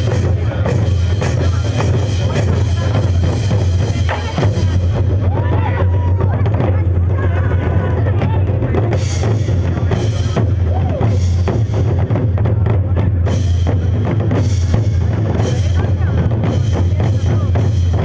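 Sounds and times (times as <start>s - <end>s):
deep low drum boom: 0.0s - 18.0s
war drums beating fast: 0.0s - 18.0s.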